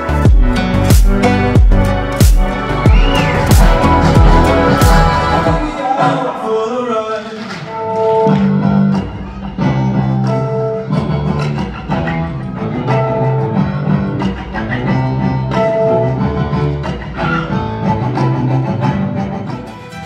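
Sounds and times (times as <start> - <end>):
instrumental music with plucked strings: 0.0 - 5.8, 7.8 - 20.0.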